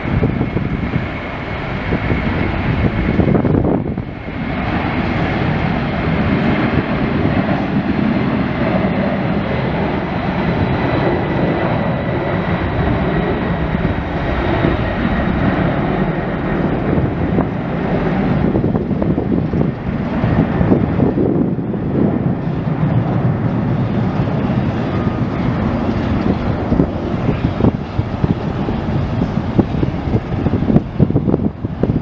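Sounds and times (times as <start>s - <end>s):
faint high jet whine: 0.0s - 32.0s
jet engines rumbling: 0.0s - 32.0s.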